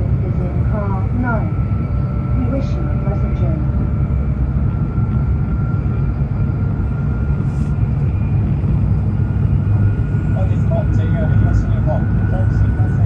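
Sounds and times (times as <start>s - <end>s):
thin steady whine: 0.0s - 13.0s
train cabin low rumble: 0.0s - 13.0s.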